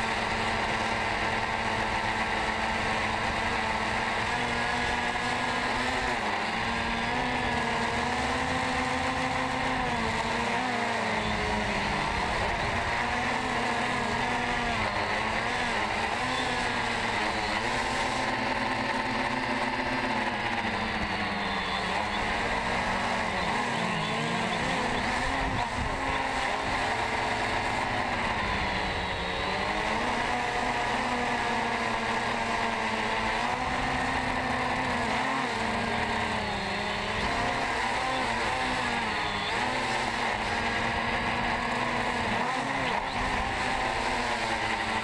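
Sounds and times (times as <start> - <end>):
drone motors and propellers whirring: 0.0 - 45.0.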